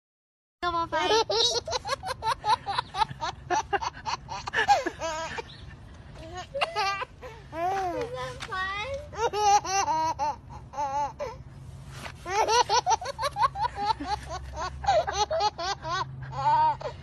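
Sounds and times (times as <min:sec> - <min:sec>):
toddler laughing: 0:01.0 - 0:08.2, 0:09.1 - 0:11.4, 0:12.2 - 0:17.0.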